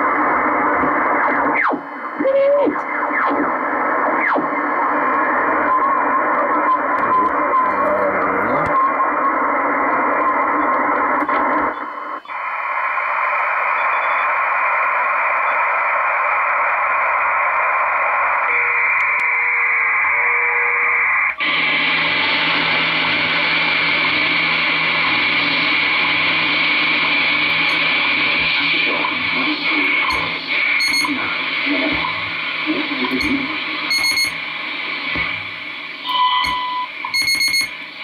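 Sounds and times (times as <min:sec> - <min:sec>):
radio static hiss: 0:00.0 - 0:38.0.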